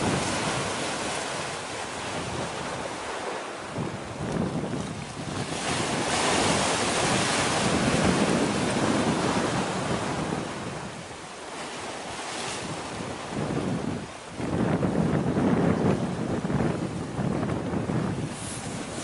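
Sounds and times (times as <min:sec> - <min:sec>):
sea rushing at shore: 0:00.0 - 0:19.0
wind buffeting microphone: 0:00.0 - 0:19.0.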